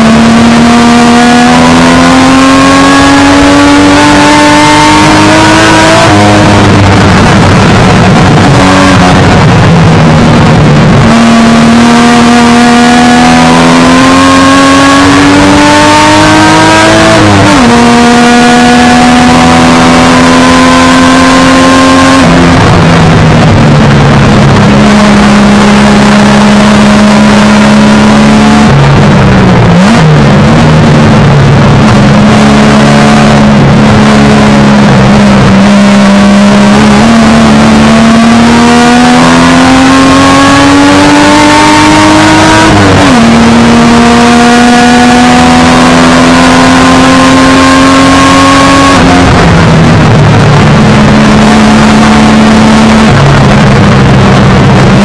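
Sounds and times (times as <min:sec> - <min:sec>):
race car engine running hard: 0:00.0 - 0:55.0
wind and road noise: 0:00.0 - 0:55.0.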